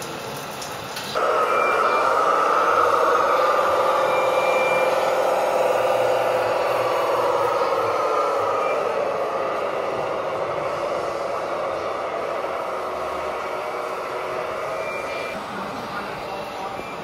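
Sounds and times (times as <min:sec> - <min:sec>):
model vehicle mechanical whine: 0:01.2 - 0:15.4.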